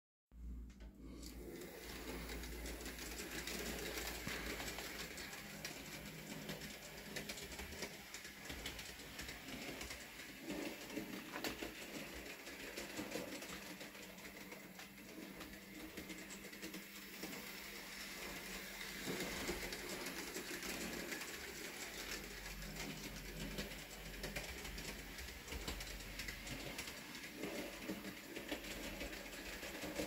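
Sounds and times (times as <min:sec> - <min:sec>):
wheels clicking over rail joints: 0:01.4 - 0:30.0.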